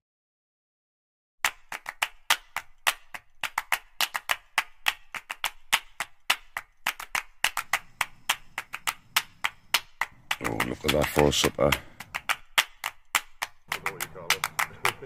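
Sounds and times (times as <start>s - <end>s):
sharp percussive clicks: 1.4s - 15.0s.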